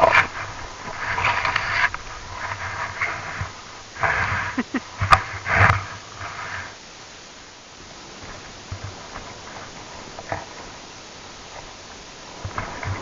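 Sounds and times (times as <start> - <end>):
skis hissing through powder snow: 0.0 - 7.2, 7.8 - 13.0.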